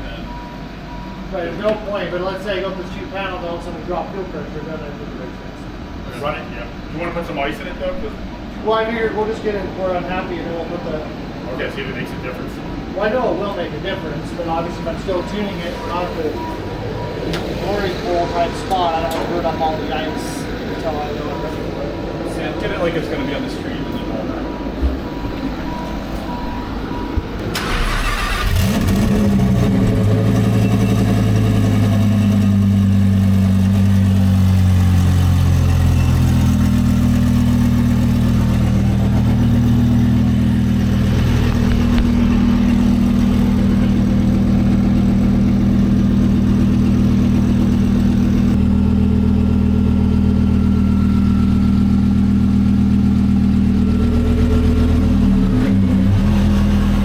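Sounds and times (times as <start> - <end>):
sports car engine starting and droning: 0.0 - 57.0.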